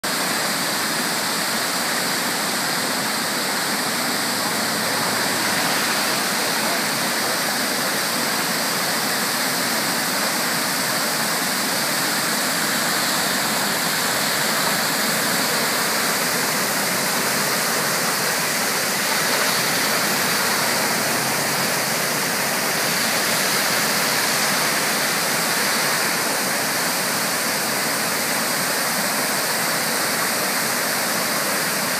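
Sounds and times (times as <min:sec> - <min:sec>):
turbulent water rushing: 0:00.0 - 0:31.9.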